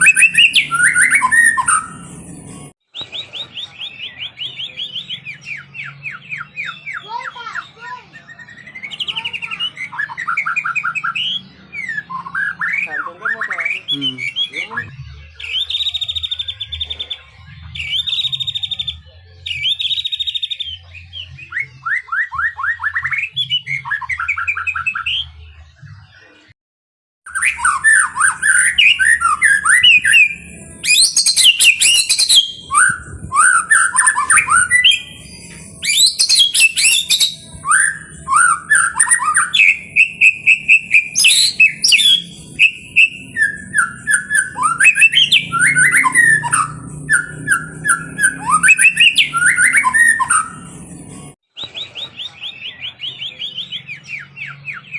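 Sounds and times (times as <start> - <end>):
bird singing: 0.0 - 26.5, 27.2 - 54.9.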